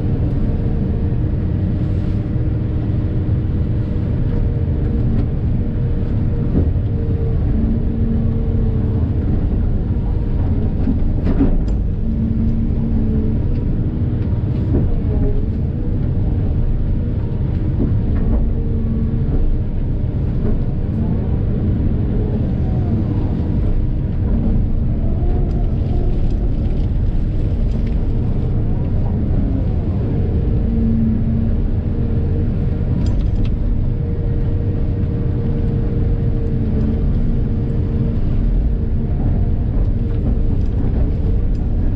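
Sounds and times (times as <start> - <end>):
diesel engine drone: 0.0 - 41.9.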